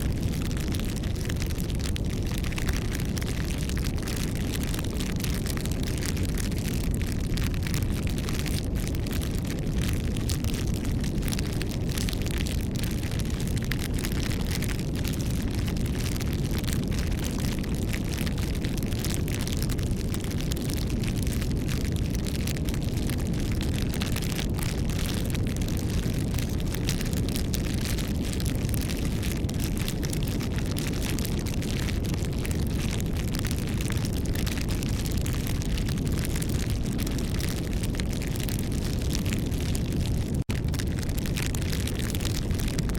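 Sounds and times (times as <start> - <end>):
low fire rumble: 0.0 - 42.9
wood bonfire crackling: 0.0 - 42.9.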